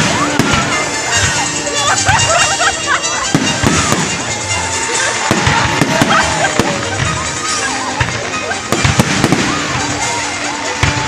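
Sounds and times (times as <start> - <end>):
fireworks bangs and crackling: 0.0 - 11.0
music playing: 0.0 - 11.0.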